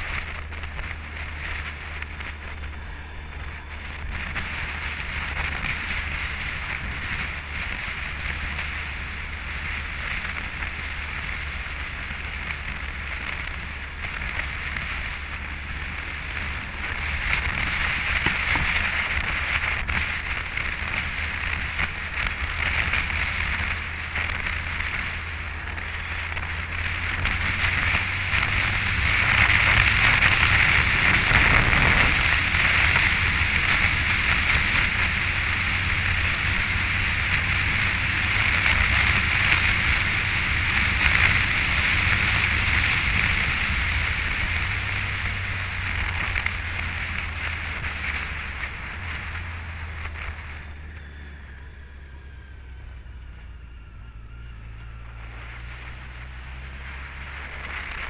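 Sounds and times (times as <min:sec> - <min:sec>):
motorcycle engine drone: 0:00.0 - 0:58.0
road noise: 0:00.0 - 0:58.0
wind rushing over microphone: 0:00.0 - 0:58.0.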